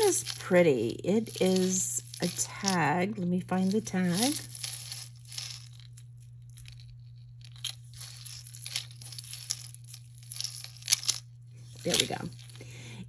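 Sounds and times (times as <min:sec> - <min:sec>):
beads and chain clicking: 0:00.0 - 0:03.0, 0:03.6 - 0:12.7.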